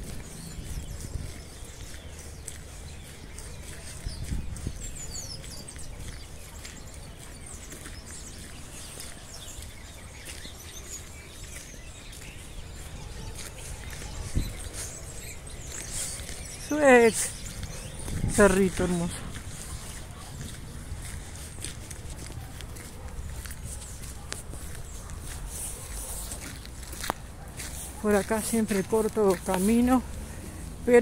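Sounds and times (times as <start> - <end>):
birds chirping: 0.0 - 31.0
footsteps on dirt road: 0.0 - 31.0.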